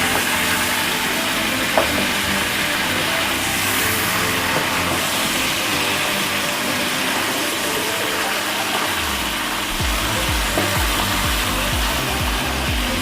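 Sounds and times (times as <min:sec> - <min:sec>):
background music with low beat: 0:00.0 - 0:13.0.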